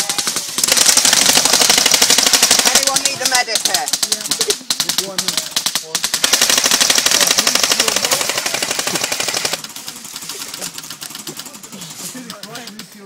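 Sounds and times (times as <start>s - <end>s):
airsoft rifle full-auto burst: 0.0s - 11.8s.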